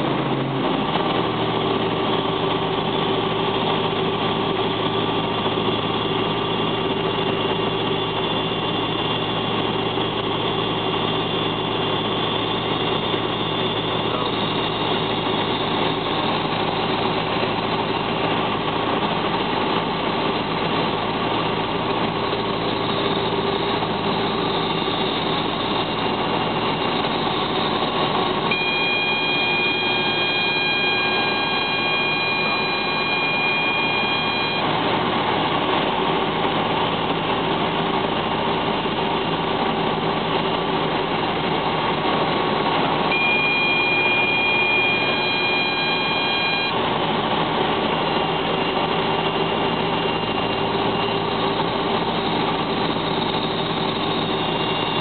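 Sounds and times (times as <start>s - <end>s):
helicopter rotor and engine: 0.0s - 55.0s
steady high multi-pitch tone: 0.9s - 19.4s, 20.9s - 35.9s, 43.1s - 55.0s.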